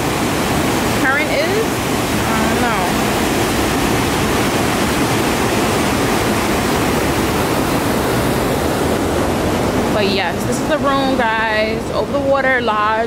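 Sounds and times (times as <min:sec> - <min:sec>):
white-water rapids rushing: 0:00.0 - 0:12.2.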